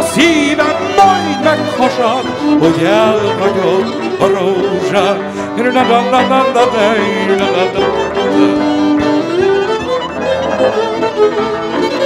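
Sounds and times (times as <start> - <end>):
violin melody with vibrato: 0.0 - 12.0.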